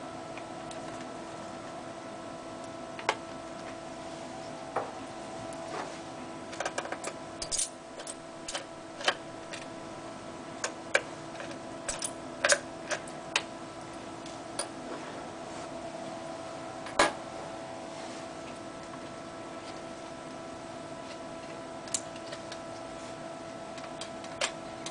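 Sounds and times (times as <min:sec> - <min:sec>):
steady hum: 0:00.0 - 0:24.9.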